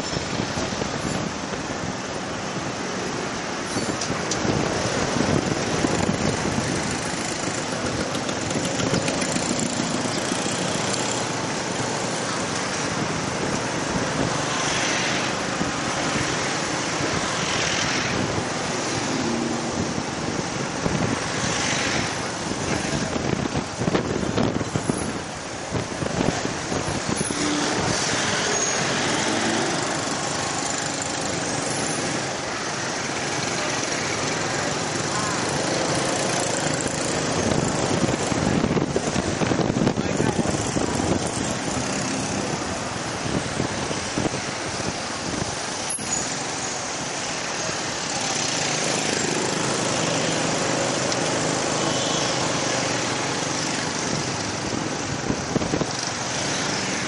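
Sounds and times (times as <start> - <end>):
scooters and cars passing: 0.0 - 57.0.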